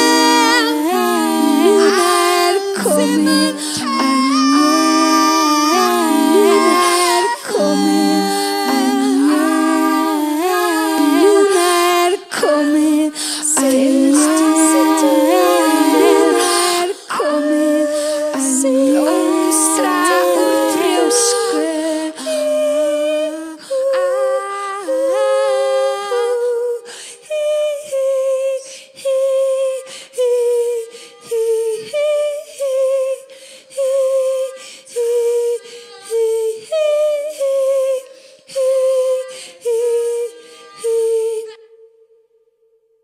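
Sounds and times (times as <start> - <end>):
woman singing a cappella: 0.0 - 42.0.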